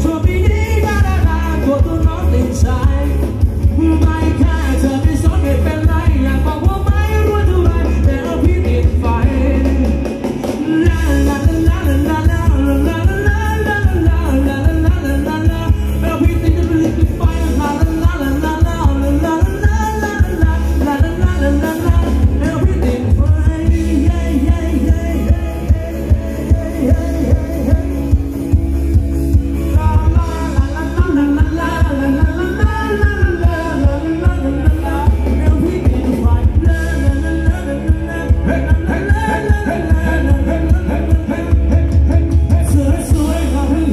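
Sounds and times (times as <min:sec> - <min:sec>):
live band dance music: 0:00.0 - 0:43.9
person singing: 0:00.0 - 0:43.9
steady drum beat: 0:00.0 - 0:43.9.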